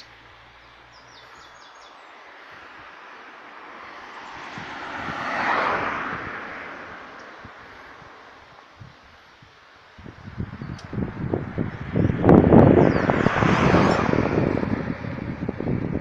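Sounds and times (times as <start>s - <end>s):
vehicle passing by: 0.0s - 8.5s, 10.4s - 16.0s.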